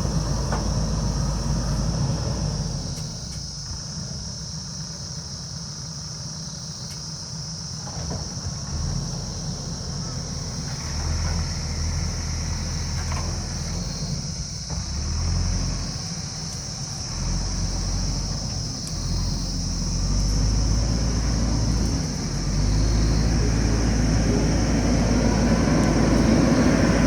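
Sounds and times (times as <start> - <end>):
backhoe diesel engine running: 0.0 - 27.0.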